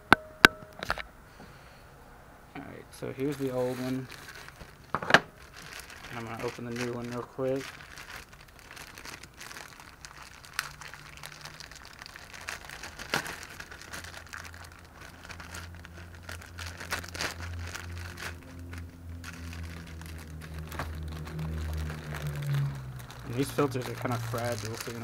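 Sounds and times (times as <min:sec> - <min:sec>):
low steady hum: 0:00.0 - 0:25.0
plastic wrapping crinkling: 0:03.1 - 0:25.0.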